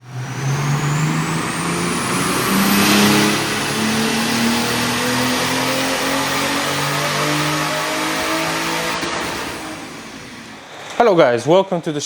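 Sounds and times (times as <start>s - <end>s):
high whine: 0.0s - 10.9s
car engine revving under load: 0.0s - 11.0s.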